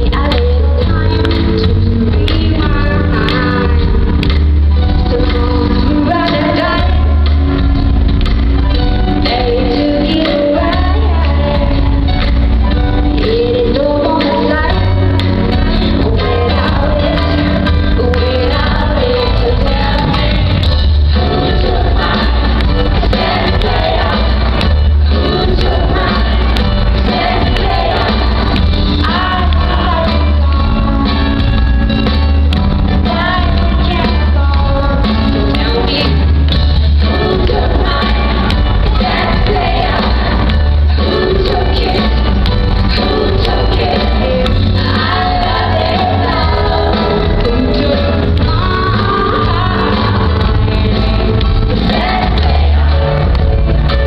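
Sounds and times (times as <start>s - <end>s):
band with heavy bass: 0.0s - 54.0s
woman singing pop song live: 0.0s - 54.0s.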